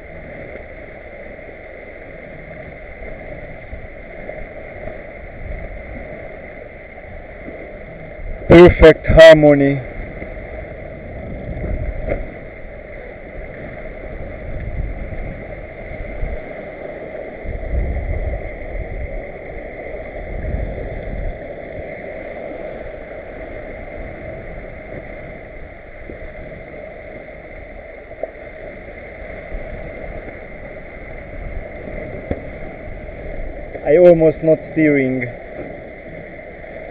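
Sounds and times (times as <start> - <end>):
low rumbling water surges: 0.0 - 36.9
water rushing along a hull: 0.0 - 36.9.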